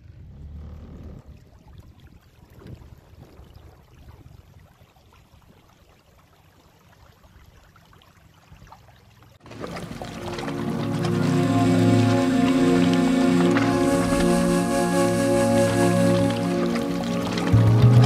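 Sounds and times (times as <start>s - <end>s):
water lapping against hull: 0.7s - 18.0s.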